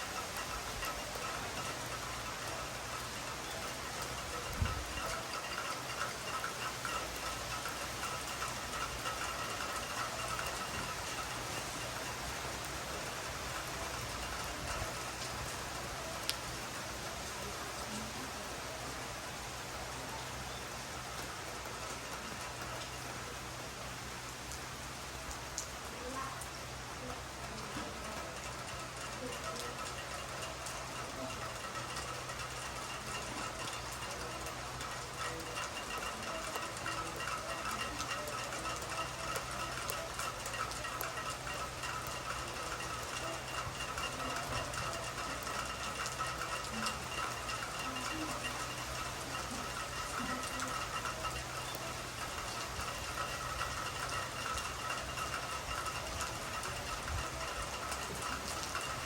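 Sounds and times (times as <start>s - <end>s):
soft rain pattering: 0.0s - 59.0s.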